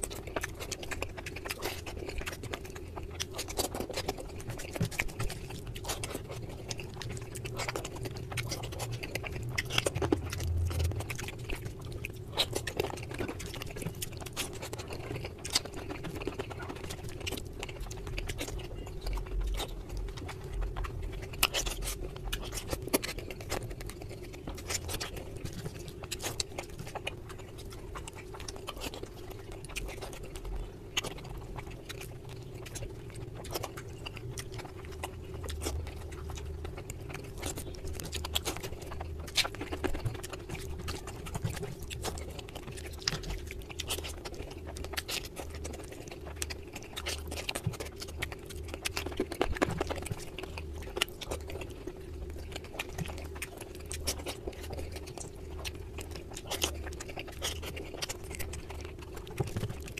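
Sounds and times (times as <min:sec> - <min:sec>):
faint steady hum: 0:00.0 - 0:59.9
person chewing: 0:00.0 - 0:59.9.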